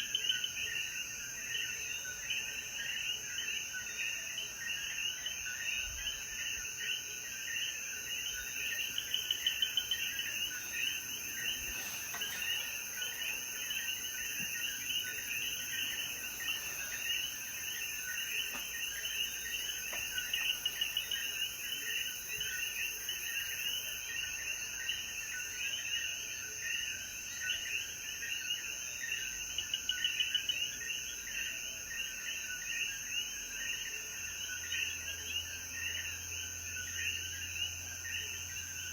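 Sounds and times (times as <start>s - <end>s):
frogs chirping: 0.0s - 38.9s.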